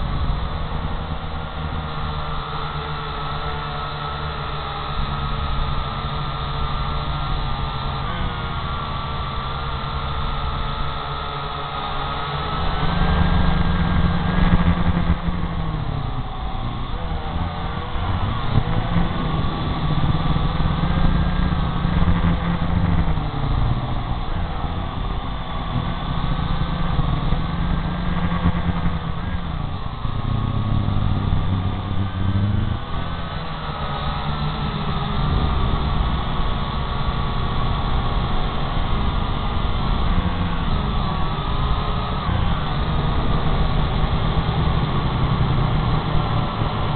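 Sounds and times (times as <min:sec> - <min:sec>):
drone motors whining: 0:00.0 - 0:46.9
low rumble: 0:00.0 - 0:46.9.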